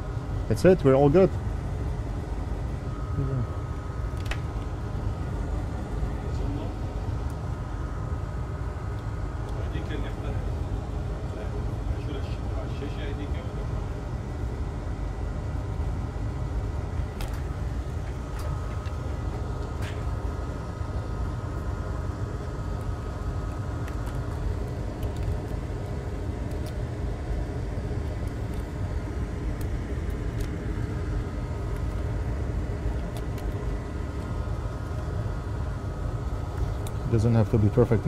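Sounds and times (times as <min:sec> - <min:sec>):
faint steady whine: 0:00.0 - 0:38.0
low background rumble: 0:00.0 - 0:38.0.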